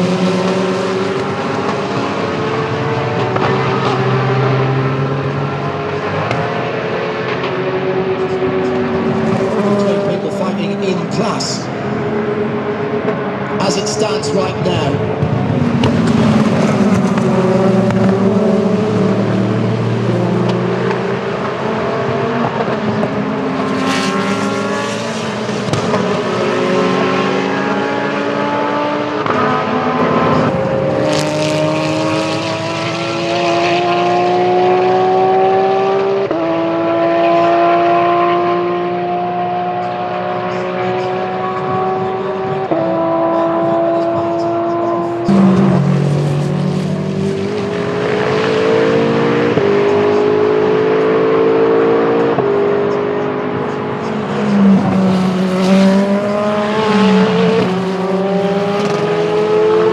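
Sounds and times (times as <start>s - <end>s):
race cars at full throttle: 0.0s - 59.9s.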